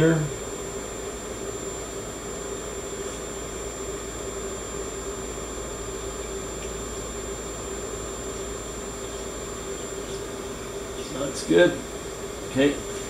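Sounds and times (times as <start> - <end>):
ozone generator humming: 0.0 - 13.0.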